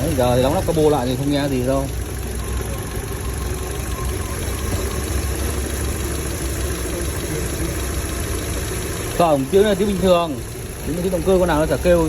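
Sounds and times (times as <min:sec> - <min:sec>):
car engine idling: 0:00.0 - 0:12.0
fuel injectors ticking: 0:00.0 - 0:12.0.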